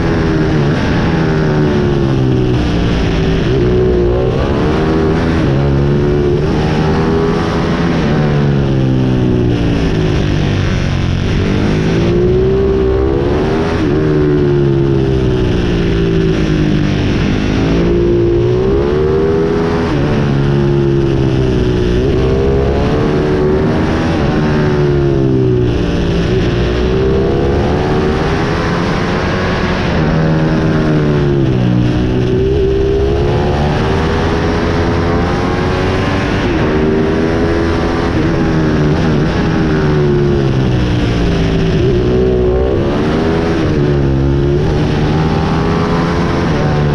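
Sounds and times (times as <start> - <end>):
pit bike engine revving: 0.0 - 46.9.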